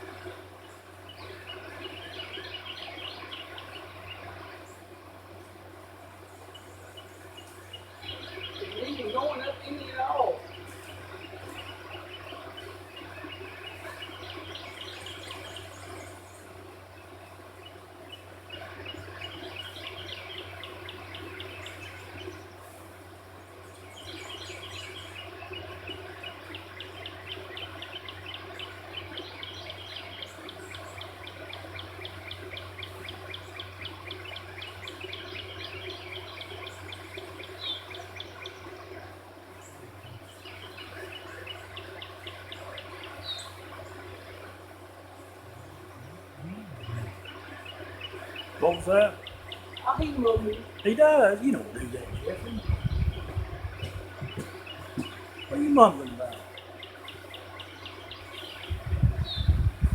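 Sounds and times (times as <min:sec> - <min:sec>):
birds chirping: 0:00.0 - 0:59.9
steady low hum: 0:00.0 - 0:59.9.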